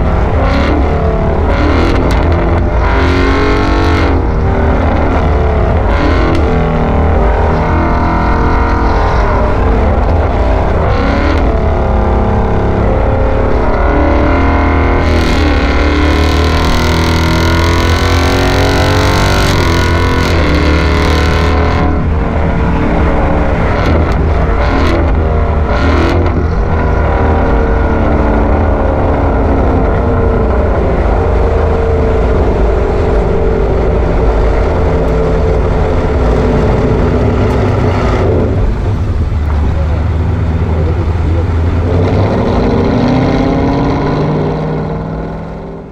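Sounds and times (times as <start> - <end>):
car engine accelerating: 0.0 - 45.9
wind noise: 0.0 - 45.9.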